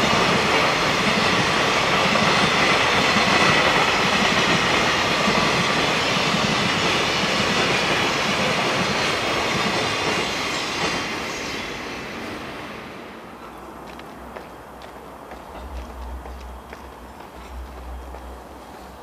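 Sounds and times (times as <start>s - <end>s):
freight train wagons rolling on rails: 0.0s - 19.0s.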